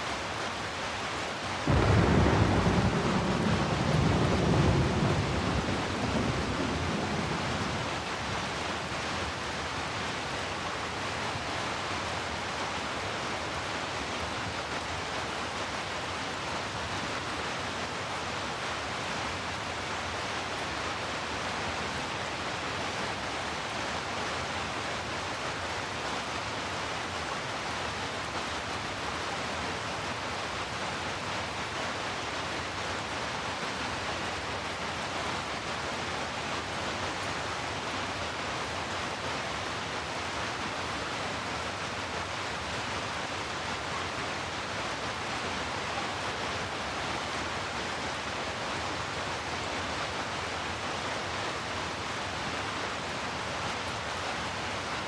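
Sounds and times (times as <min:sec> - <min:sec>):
heavy rain rushing: 0:00.0 - 0:55.0.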